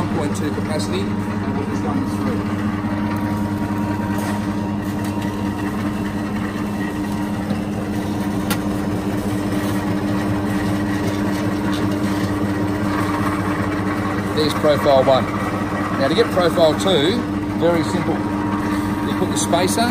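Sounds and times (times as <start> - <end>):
machine motor humming: 0.0 - 19.9.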